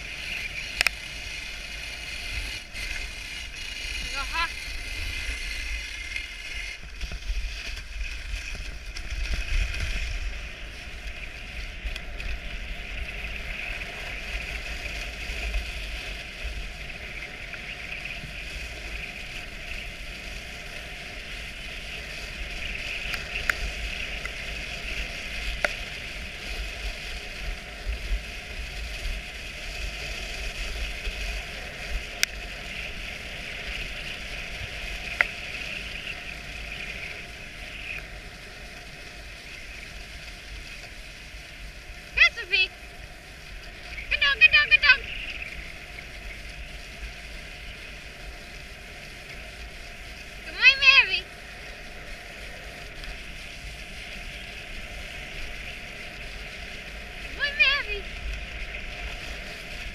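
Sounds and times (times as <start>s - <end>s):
sled hissing over snow: 0.0s - 59.9s
wind on microphone: 0.0s - 59.9s.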